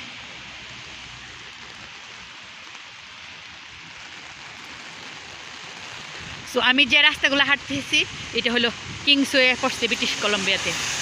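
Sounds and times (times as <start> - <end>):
heavy rain on street: 0.0 - 11.0
traffic rumble: 0.0 - 11.0.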